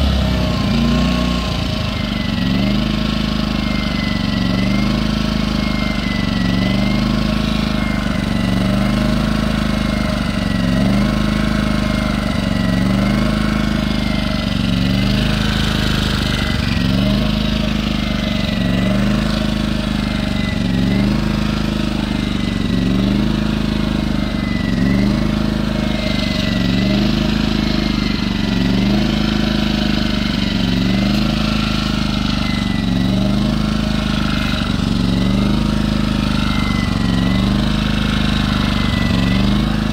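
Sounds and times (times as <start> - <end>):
generator running: 0.0 - 39.9.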